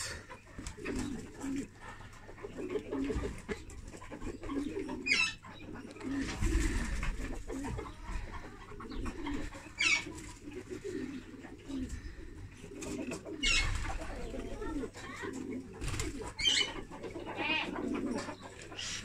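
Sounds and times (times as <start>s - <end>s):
birds cooing: 0.0s - 19.0s.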